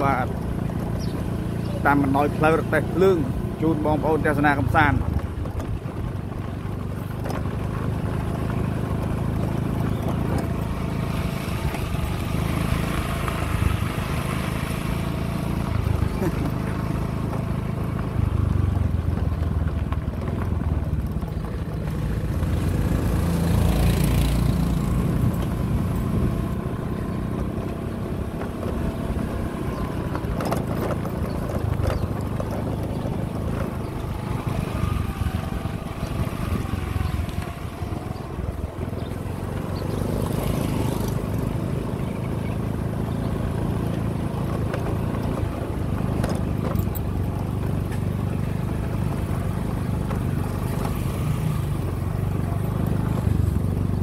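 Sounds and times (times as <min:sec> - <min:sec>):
motorbike engine running: 0:00.0 - 0:54.0
motorbike passing by: 0:00.0 - 0:54.0.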